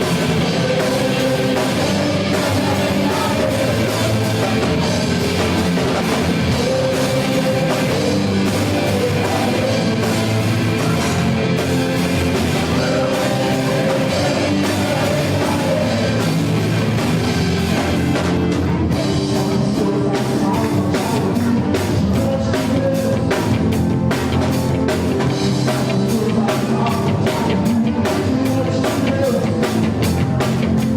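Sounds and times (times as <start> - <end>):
person singing: 0.0 - 17.0, 18.7 - 23.9, 25.4 - 30.9
drum kit: 0.0 - 30.9
rock band playing: 0.0 - 30.9.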